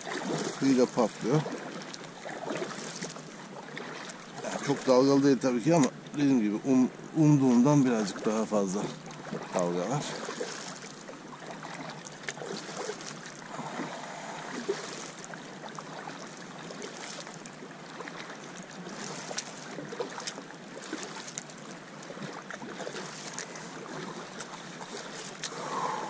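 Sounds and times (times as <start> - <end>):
paddle splashing: 0.0 - 26.0
water washing along hull: 0.0 - 26.0.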